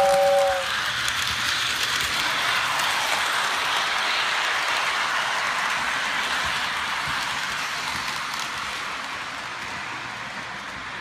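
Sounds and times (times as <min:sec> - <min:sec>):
model steam locomotive hissing: 0:00.0 - 0:11.0.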